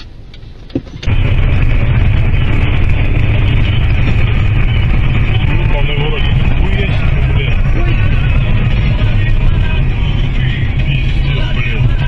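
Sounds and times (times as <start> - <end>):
road and wind noise inside car: 0.0 - 12.0.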